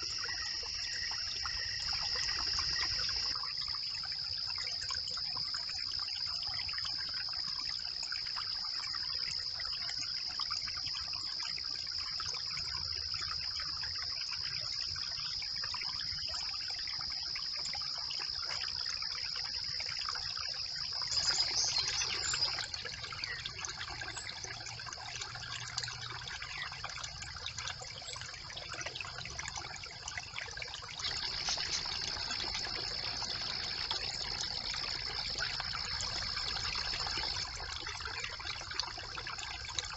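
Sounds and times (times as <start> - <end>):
brook water trickling: 0.0 - 39.9.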